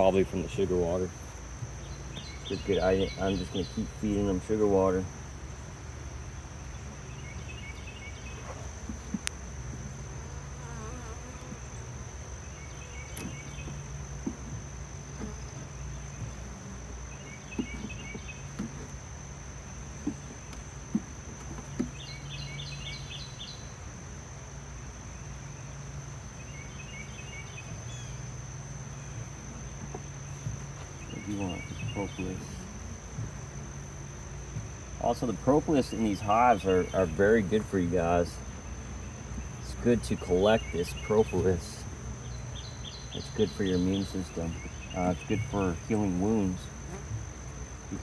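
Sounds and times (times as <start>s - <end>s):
high insect trill: 0.0s - 48.0s
honeybees humming: 0.0s - 48.0s.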